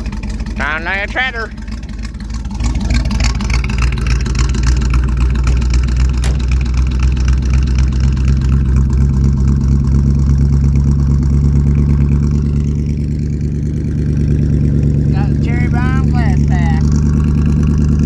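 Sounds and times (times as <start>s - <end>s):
pickup truck engine running: 0.0s - 18.0s.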